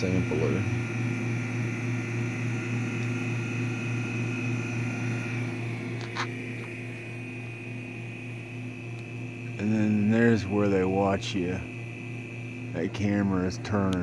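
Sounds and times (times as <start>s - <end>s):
air pump humming and whining: 0.0s - 14.0s.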